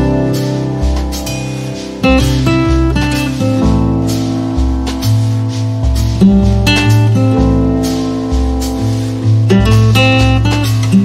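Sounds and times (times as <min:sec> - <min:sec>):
bass line: 0:00.0 - 0:11.0
strummed acoustic guitar: 0:00.0 - 0:11.0.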